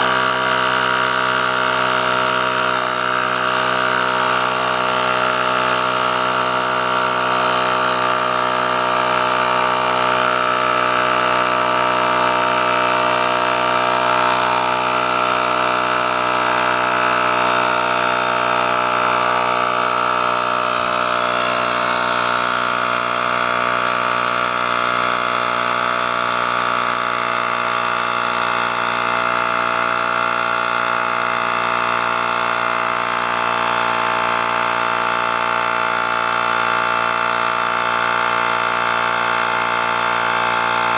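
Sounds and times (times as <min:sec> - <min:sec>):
air compressor humming: 0:00.0 - 0:40.9.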